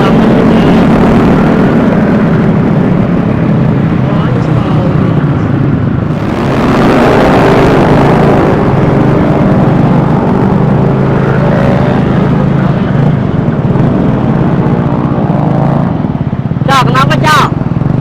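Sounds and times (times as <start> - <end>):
road and wind noise: 0.0 - 18.0
scooter engine running: 0.0 - 18.0.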